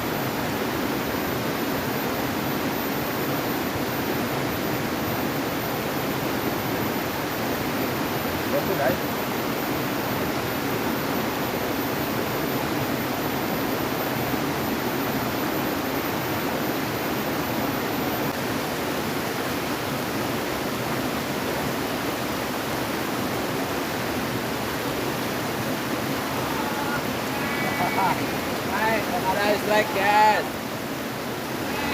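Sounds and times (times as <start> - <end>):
water rushing: 0.0 - 31.9.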